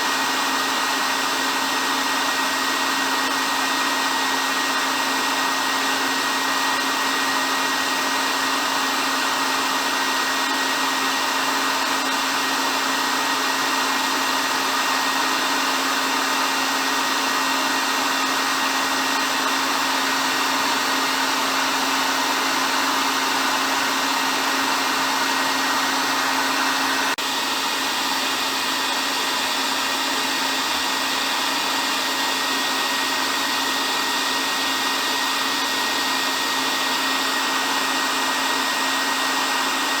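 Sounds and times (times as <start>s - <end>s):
hair dryer running: 0.0s - 40.0s.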